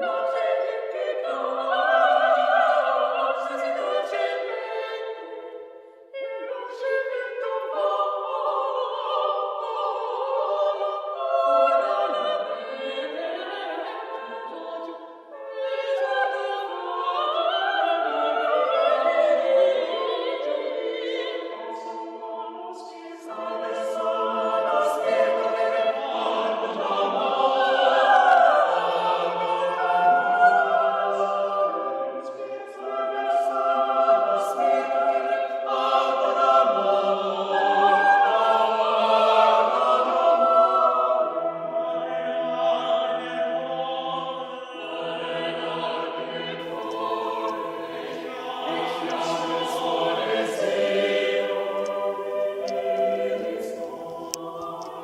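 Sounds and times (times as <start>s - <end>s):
operatic choral singing: 0.0s - 55.0s.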